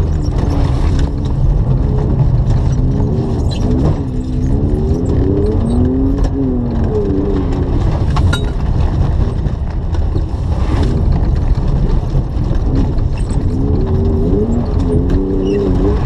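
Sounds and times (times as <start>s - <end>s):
car engine revving: 0.0s - 16.0s
tyres rumbling on gravel: 0.0s - 16.0s.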